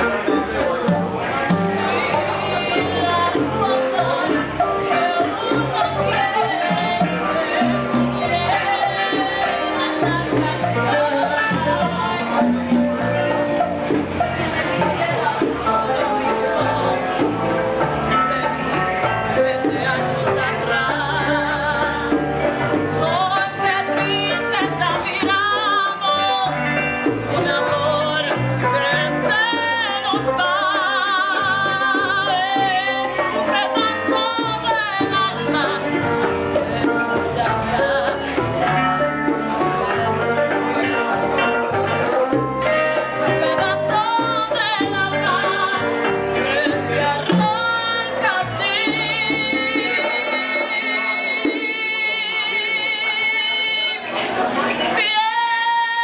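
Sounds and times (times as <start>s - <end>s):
acoustic guitars congas and maracas: 0.0s - 56.0s
woman singing with vibrato: 0.0s - 56.0s.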